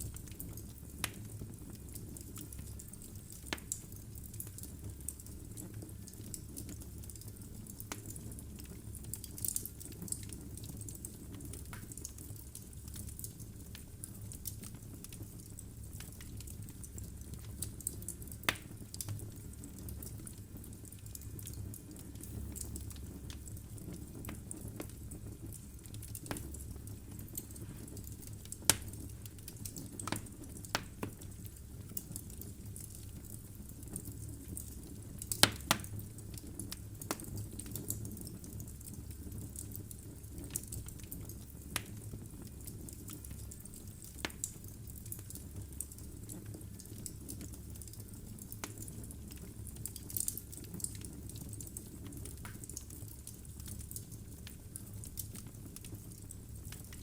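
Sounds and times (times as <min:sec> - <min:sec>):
fire rumbling: 0:00.0 - 0:57.0
logs crackling and popping: 0:00.0 - 0:57.0.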